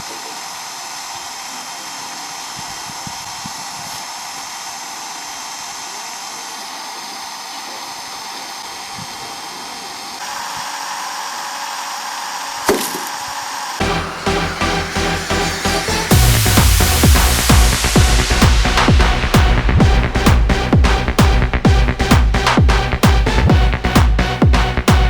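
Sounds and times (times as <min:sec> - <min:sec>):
electric drill whining: 0:00.0 - 0:24.0.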